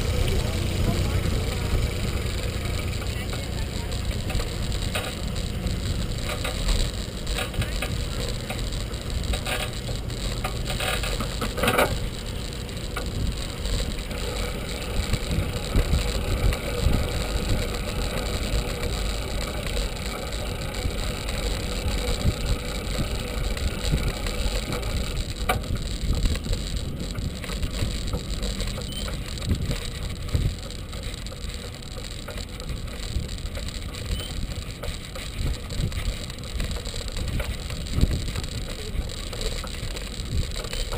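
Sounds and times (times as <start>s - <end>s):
bicycle tyre and frame noise: 0.0s - 40.9s
clicks and rattles: 0.0s - 40.9s
wind rumble on microphone: 0.0s - 40.9s.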